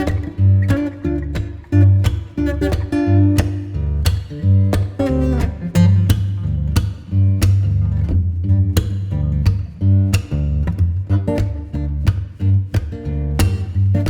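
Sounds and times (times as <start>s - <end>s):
bass line: 0.0s - 14.0s
plucked acoustic guitar: 0.0s - 14.0s
steady beat: 0.0s - 14.0s.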